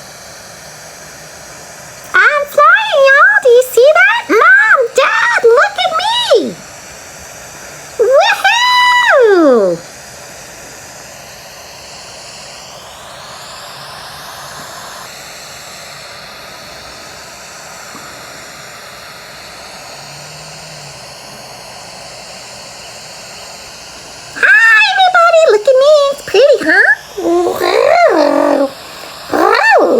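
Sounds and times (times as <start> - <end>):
jet engine roar: 0.0 - 29.9.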